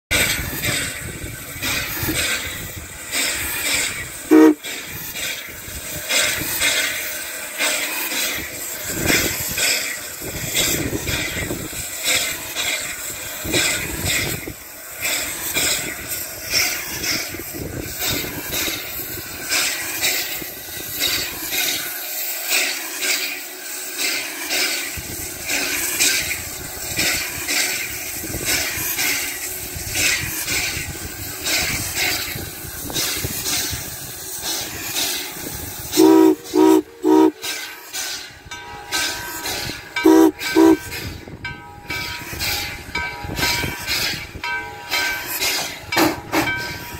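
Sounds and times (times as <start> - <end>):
steam hiss: 0.1 - 46.9
steam locomotive beat: 0.1 - 46.9.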